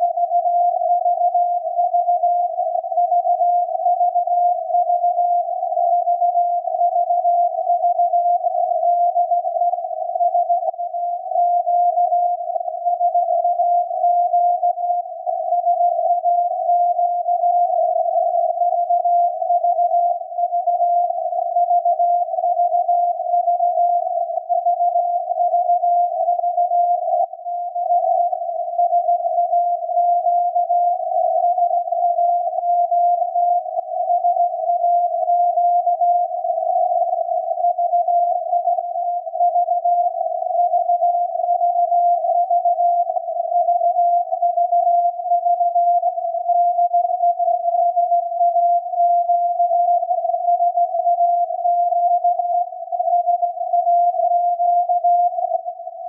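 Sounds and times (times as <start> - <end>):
wavering radio tone: 6.2 - 56.0.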